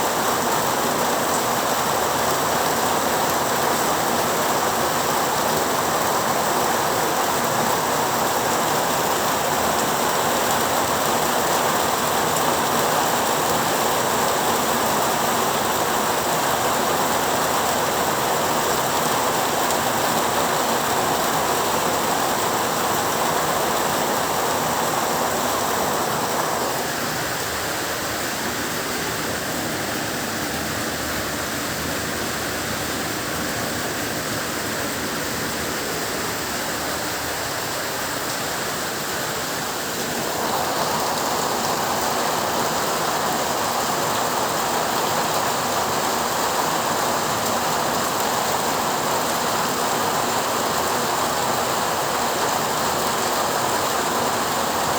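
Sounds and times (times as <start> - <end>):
heavy rain hissing: 0.0 - 54.9.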